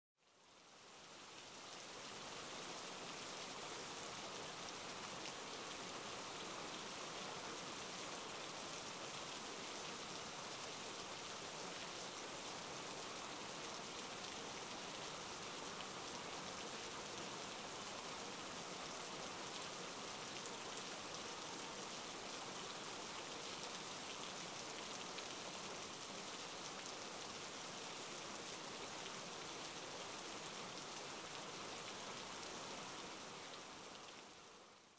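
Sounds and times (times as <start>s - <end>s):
steady rainfall: 0.2s - 34.9s.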